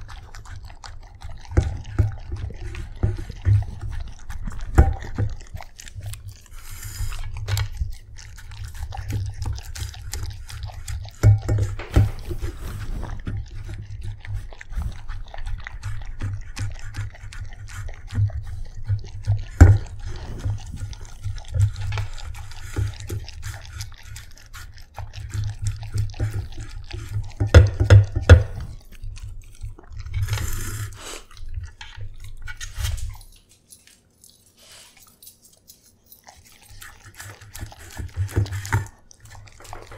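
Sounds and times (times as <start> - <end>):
dog chewing and licking: 0.0 - 39.9.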